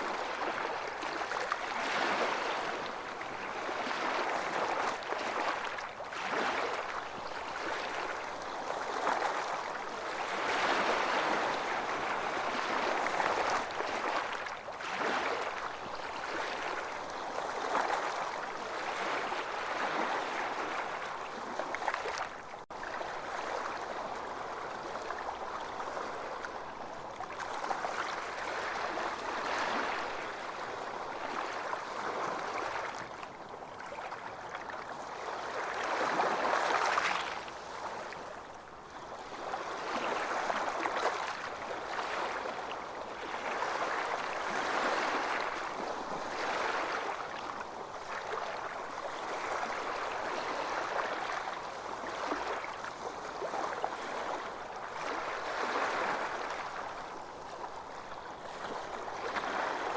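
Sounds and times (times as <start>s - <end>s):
sea waves breaking on beach: 0.0s - 59.9s.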